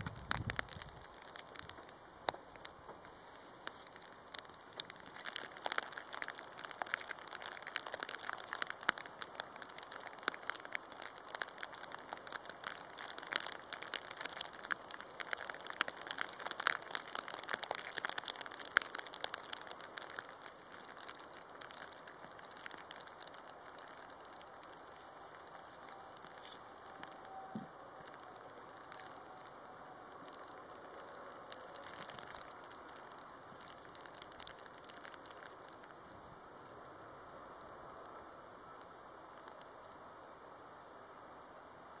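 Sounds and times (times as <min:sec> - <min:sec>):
raindrops spattering close: 0:00.0 - 0:42.0
steady rain hiss: 0:00.0 - 0:42.0.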